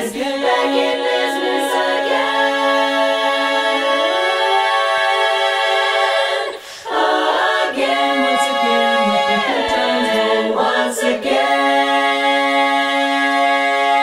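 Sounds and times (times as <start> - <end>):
women's chorus singing a cappella: 0.0 - 14.0.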